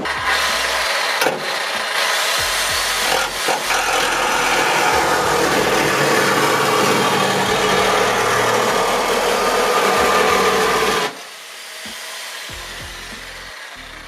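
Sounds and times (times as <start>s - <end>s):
cutting tool rasping sheet metal: 0.0s - 14.0s.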